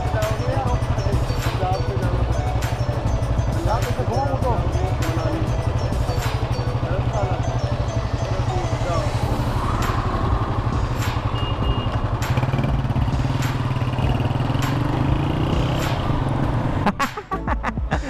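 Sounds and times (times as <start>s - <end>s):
motorcycle engine idling: 0.0s - 16.4s.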